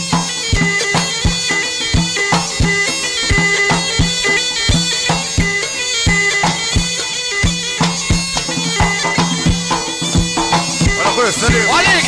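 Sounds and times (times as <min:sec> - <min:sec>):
bagpipe melody over drone: 0:00.0 - 0:12.0
hand drum beat: 0:00.0 - 0:12.0.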